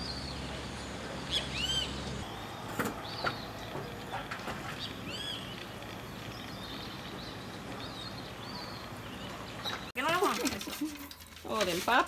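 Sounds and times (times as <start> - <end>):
birds chirping: 0.0 - 10.4
outdoor background hiss: 0.0 - 12.0.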